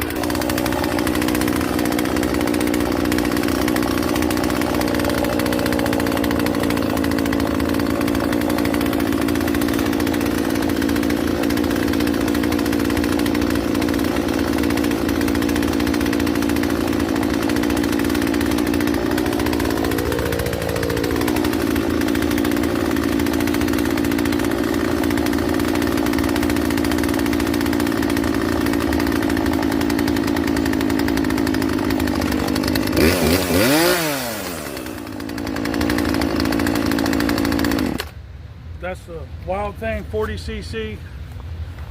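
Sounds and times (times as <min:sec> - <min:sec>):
chainsaw engine idling and revving: 0:00.0 - 0:38.2, 0:38.8 - 0:41.3.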